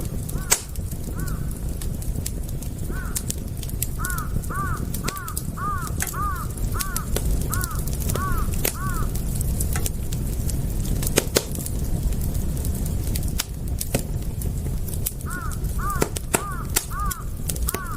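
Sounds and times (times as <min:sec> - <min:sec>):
low rumble: 0:00.0 - 0:15.8
wood fire crackling and popping: 0:00.0 - 0:17.9.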